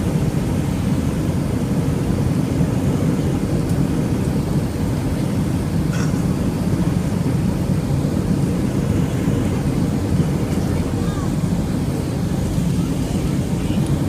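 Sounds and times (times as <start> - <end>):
airplane engines rumbling in cabin: 0.0 - 14.0.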